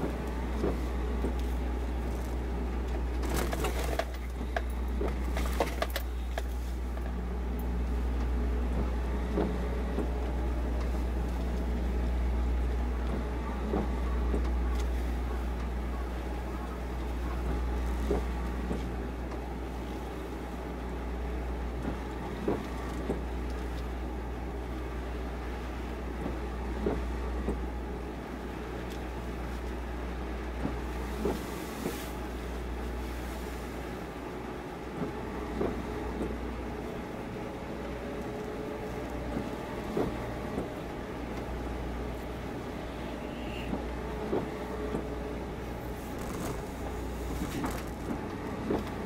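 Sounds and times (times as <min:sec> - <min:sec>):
low harbour rumble: 0:00.0 - 0:49.0.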